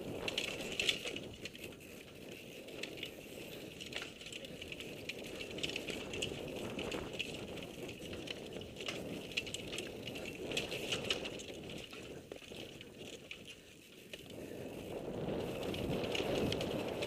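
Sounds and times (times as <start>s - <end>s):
bike rattling and clicking: 0.0s - 17.0s
bike tyres rumbling over rocks: 0.0s - 17.0s.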